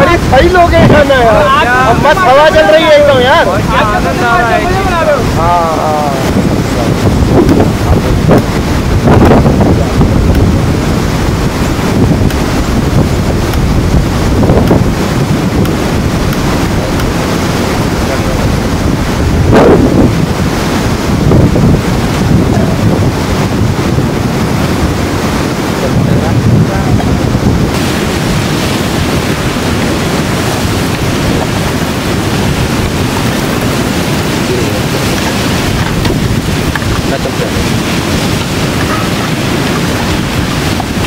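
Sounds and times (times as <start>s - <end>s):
fast river rushing: 0.0s - 41.0s
wind buffeting microphone: 0.0s - 41.0s.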